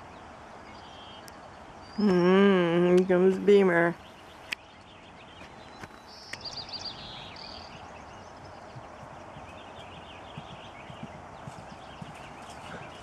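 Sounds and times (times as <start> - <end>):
outdoor background noise: 0.0 - 13.0
songbirds chirping: 0.0 - 13.0.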